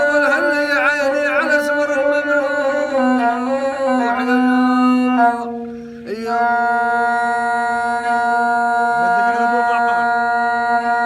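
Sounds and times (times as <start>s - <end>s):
bowed fiddle long notes: 0.0s - 11.0s
man singing: 0.0s - 11.0s.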